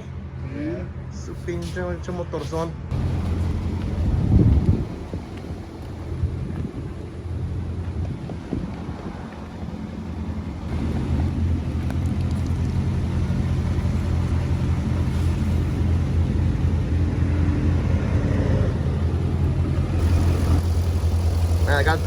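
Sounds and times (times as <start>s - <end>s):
vehicle engine idling: 2.9s - 22.0s.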